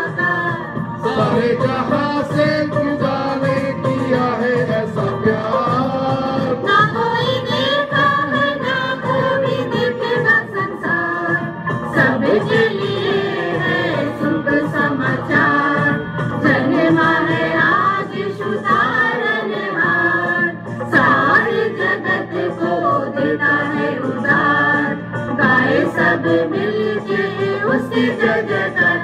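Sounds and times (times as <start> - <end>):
mixed choir singing: 0.0 - 29.0.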